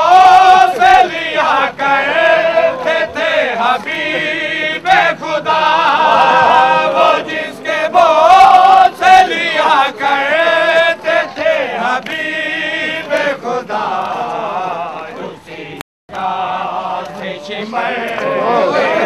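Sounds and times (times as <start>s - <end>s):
men chanting a lament: 0.0s - 19.0s.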